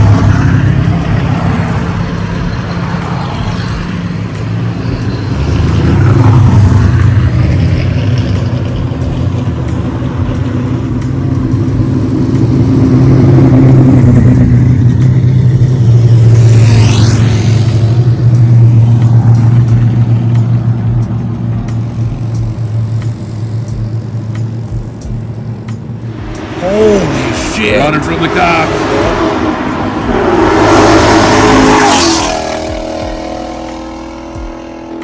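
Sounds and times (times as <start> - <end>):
car engine exhaust rumble: 0.0 - 35.0.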